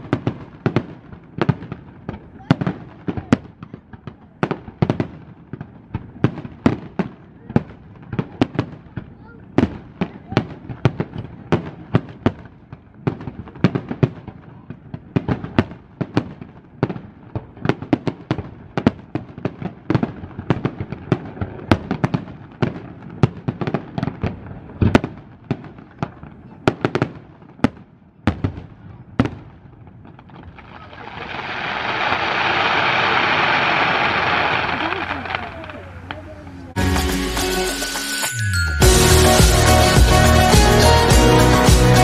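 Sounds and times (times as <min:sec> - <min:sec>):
fireworks bursting with sharp bangs: 0:00.0 - 0:42.0.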